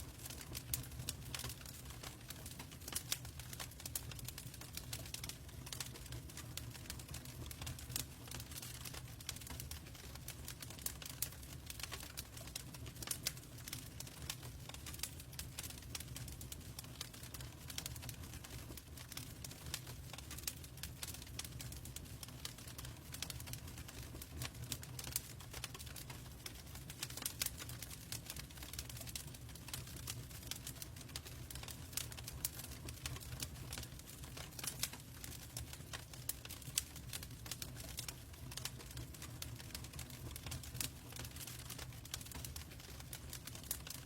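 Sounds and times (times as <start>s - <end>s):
log fire crackling: 0.0s - 44.0s.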